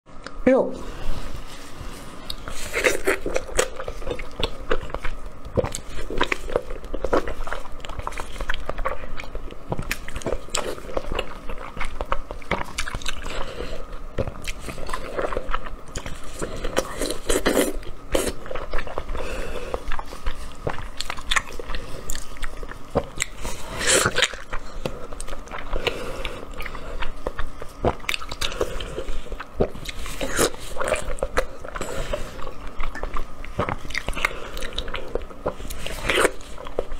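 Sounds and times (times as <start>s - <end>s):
biting and chewing food: 2.1s - 36.9s.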